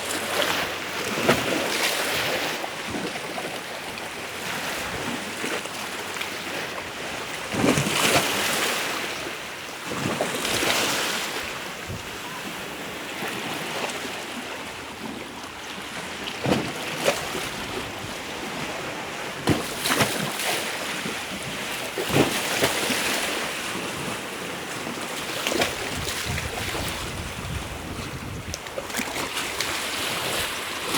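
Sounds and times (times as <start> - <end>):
waves crashing: 0.0 - 30.9.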